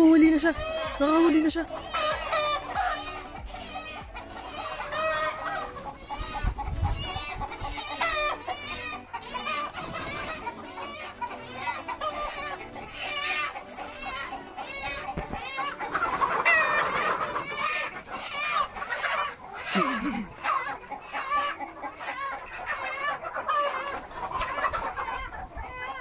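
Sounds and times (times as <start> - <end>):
chickens clucking and squawking: 0.0 - 26.0.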